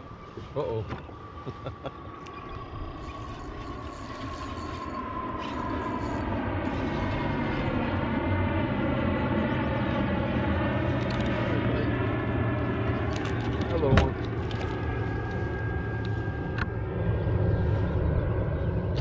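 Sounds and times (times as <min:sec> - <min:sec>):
distant engine hum: 0:00.0 - 0:19.0.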